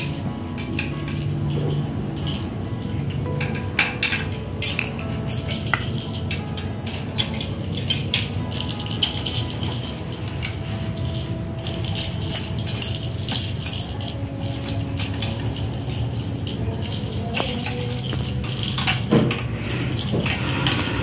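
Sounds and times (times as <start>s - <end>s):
music with jingling percussion: 0.0s - 21.0s.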